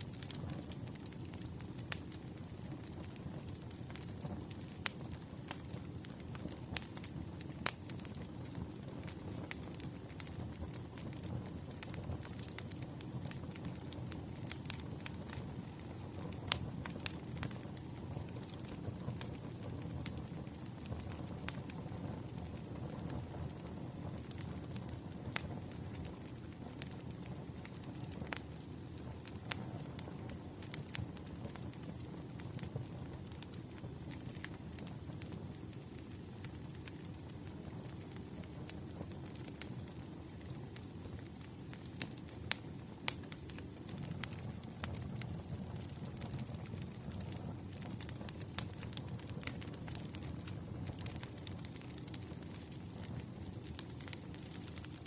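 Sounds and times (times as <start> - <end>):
firewood burning crackling: 0.0 - 55.0.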